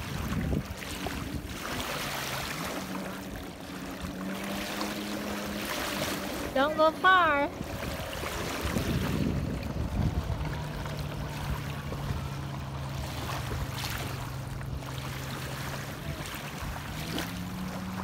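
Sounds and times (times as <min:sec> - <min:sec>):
distant motorboat engine: 0:00.0 - 0:18.0
water lapping: 0:00.0 - 0:18.0
wind: 0:00.0 - 0:18.0.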